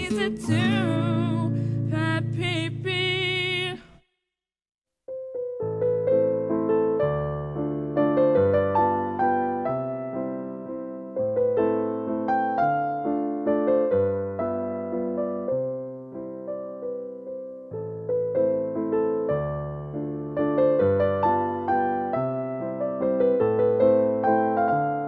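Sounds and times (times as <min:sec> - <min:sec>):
piano music: 0:00.0 - 0:03.6, 0:05.1 - 0:25.0.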